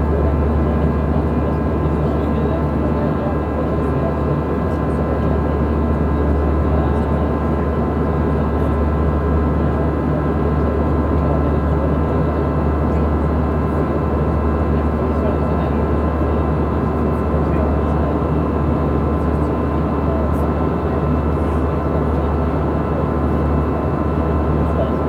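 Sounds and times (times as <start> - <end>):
airplane cabin drone: 0.0 - 14.0, 14.7 - 25.0.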